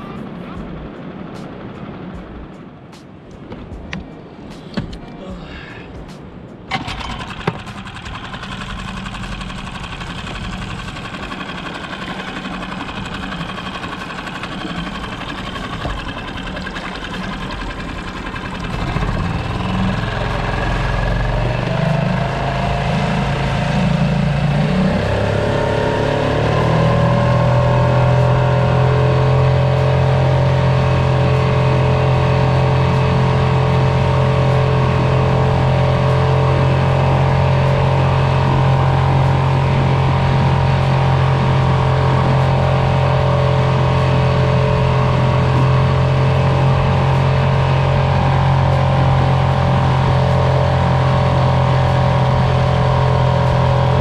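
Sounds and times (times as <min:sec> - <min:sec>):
outboard motor running: 0:06.7 - 0:54.0.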